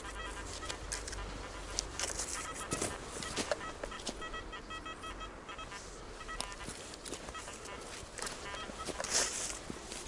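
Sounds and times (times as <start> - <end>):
metal detector beeps: 0.0 - 9.5.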